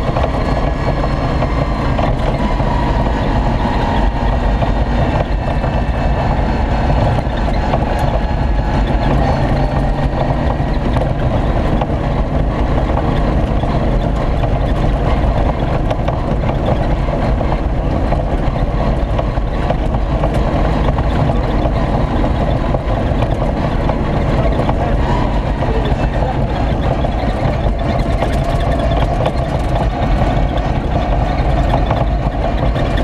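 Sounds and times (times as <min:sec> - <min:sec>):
racing car engine running hard: 0:00.0 - 0:33.0.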